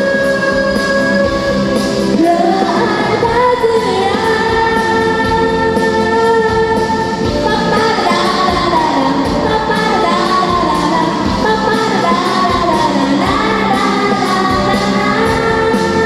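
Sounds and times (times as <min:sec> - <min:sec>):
person singing over pop music: 0:00.0 - 0:16.0.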